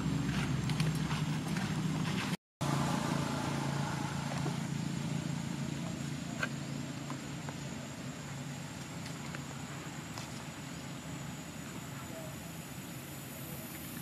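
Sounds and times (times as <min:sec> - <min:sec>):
faint outdoor background noise: 0:00.0 - 0:14.0
low engine hum: 0:00.0 - 0:14.0.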